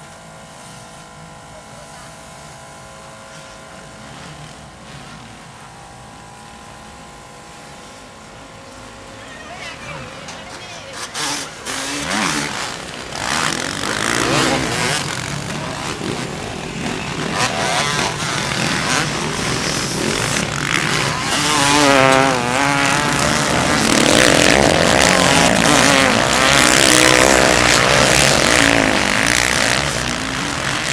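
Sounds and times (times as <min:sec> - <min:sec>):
motocross bike engines revving: 0:00.0 - 0:30.9.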